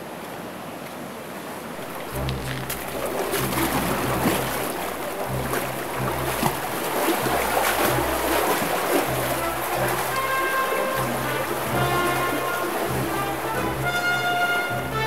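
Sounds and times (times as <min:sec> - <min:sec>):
water rushing along a channel: 0:00.0 - 0:15.0
background music bass notes: 0:01.8 - 0:15.0.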